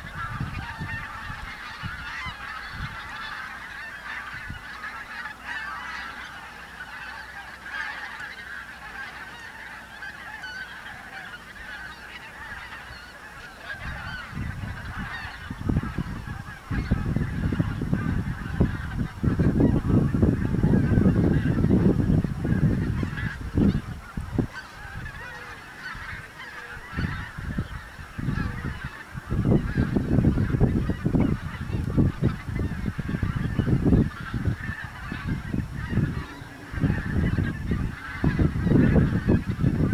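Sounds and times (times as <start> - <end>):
geese honking in flight: 0.0 - 39.9.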